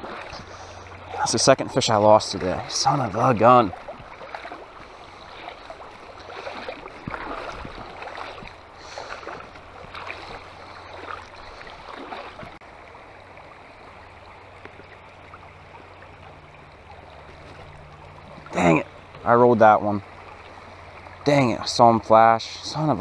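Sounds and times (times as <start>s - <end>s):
creek water flowing: 0.0s - 23.0s
water splashing: 0.0s - 23.0s.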